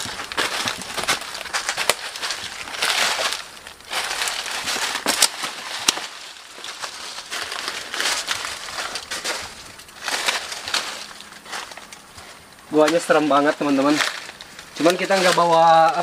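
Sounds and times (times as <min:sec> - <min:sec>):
footsteps crunching through dry leaves: 0:00.0 - 0:16.0
twigs snapping: 0:00.0 - 0:16.0.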